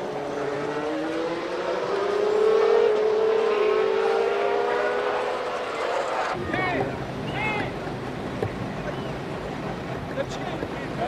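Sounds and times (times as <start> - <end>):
racing car engines accelerating: 0.0 - 11.0.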